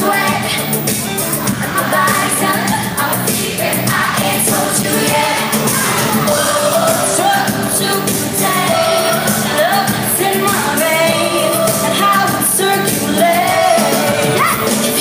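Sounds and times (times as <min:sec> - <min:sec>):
pop backing track with beat: 0:00.0 - 0:15.0
women singing live pop: 0:00.0 - 0:15.0.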